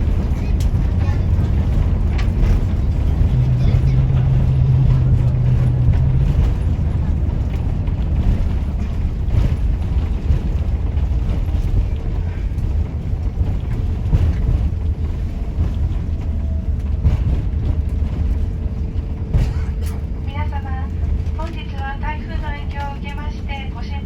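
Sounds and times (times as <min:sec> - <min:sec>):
aircraft cabin engine rumble: 0:00.0 - 0:24.0.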